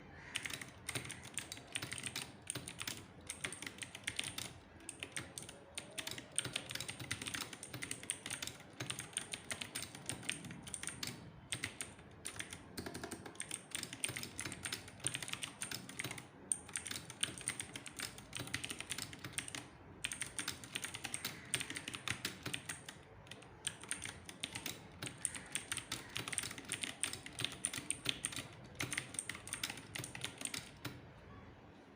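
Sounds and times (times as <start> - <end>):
mechanical keyboard typing: 0.3 - 31.0.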